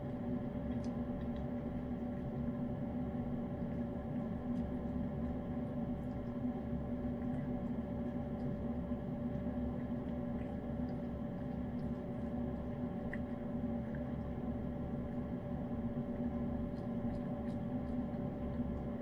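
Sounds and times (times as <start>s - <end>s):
cat licking and chewing: 0.0s - 19.0s
two-tone machine hum: 0.0s - 19.0s.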